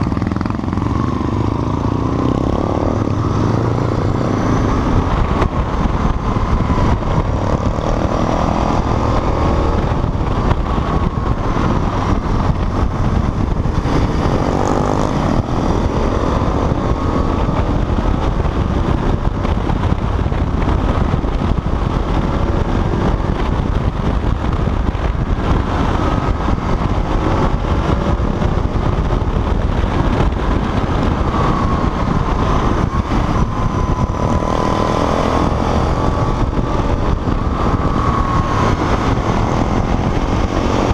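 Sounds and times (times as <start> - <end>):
motorcycle engine revving: 0.0 - 40.9
wind rush on microphone: 0.0 - 40.9.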